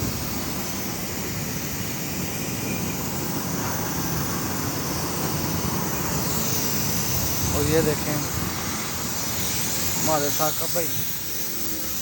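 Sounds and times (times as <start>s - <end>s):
steady mechanical running noise: 0.0s - 12.0s.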